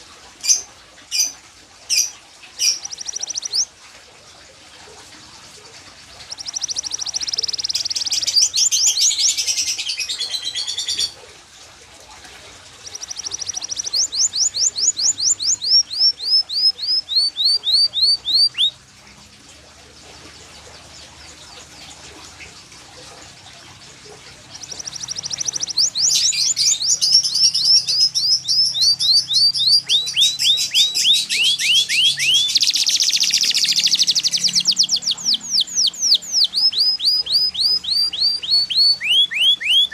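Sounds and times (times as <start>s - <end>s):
canary singing trills: 0.0s - 3.7s, 6.0s - 11.2s, 12.7s - 18.8s, 20.2s - 39.9s.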